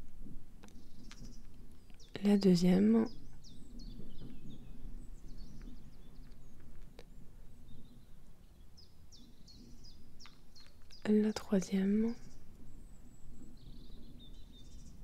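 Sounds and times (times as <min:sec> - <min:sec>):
birds chirping: 0:00.6 - 0:15.0.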